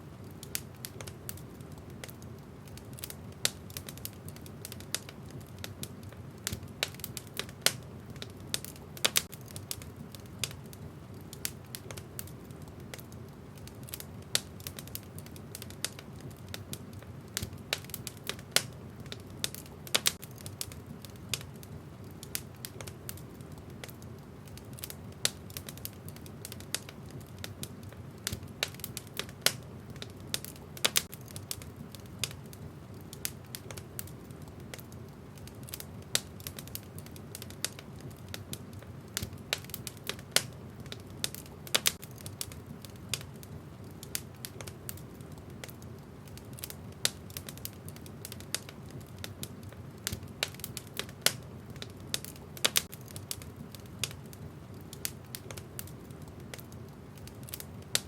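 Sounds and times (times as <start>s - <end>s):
low rumble of burning: 0.0s - 58.0s
wood fire crackling: 0.0s - 58.0s.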